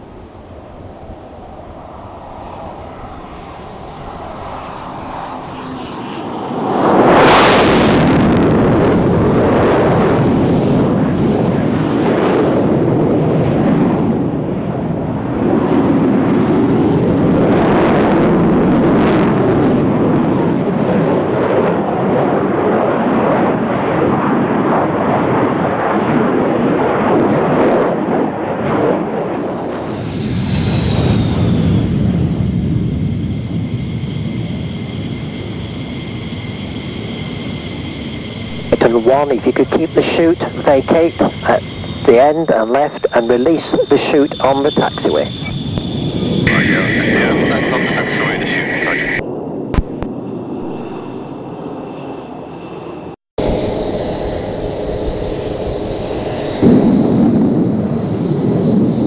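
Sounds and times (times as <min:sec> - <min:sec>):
fighter jet passing: 0:00.1 - 0:59.0.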